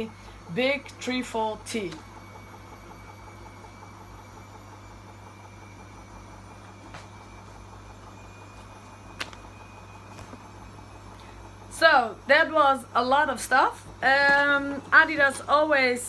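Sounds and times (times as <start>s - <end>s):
faint high whine: 0.0s - 16.0s
washing machine humming: 0.0s - 16.0s.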